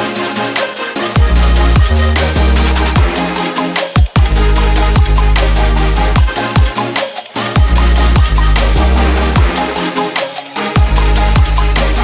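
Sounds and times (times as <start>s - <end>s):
drum and bass music: 0.0s - 12.0s.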